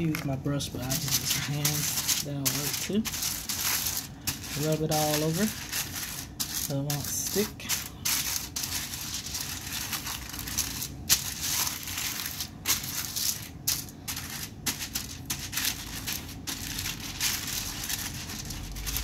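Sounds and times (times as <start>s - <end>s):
aluminum foil crinkling: 0.0s - 19.0s.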